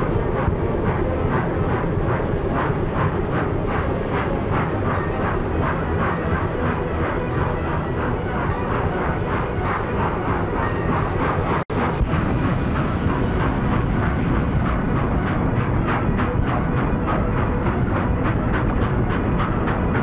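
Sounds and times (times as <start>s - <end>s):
train rushing rumble: 0.0s - 20.0s.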